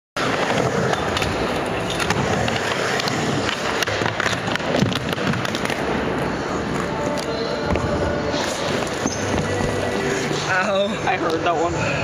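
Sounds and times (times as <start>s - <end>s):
skateboard wheels rolling: 0.2s - 10.4s.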